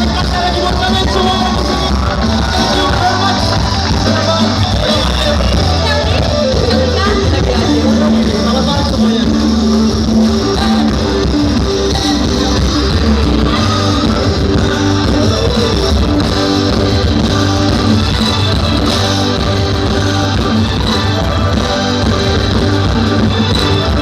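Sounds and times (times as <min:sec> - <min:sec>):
bass: 0:00.0 - 0:24.0
guitar: 0:00.0 - 0:24.0
live band instrumental music: 0:00.0 - 0:24.0.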